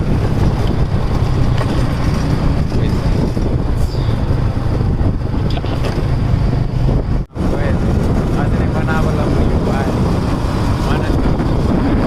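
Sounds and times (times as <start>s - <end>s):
low engine drone: 0.0s - 12.0s
road and wind noise: 0.0s - 12.0s.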